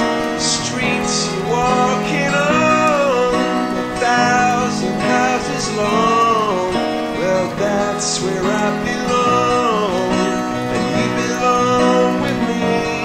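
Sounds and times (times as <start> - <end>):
acoustic guitar strumming: 0.0 - 13.0
person singing long notes: 0.0 - 13.0.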